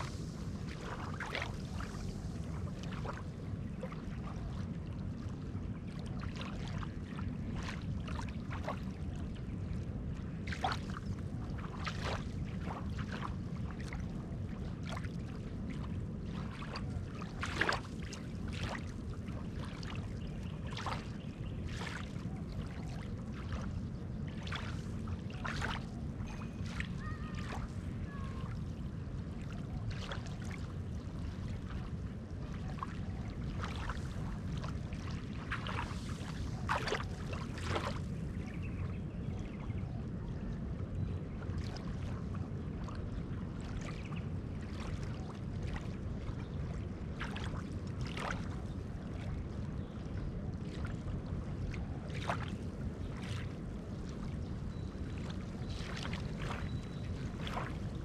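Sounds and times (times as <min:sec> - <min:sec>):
small waves lapping on sand: 0:00.0 - 0:58.0.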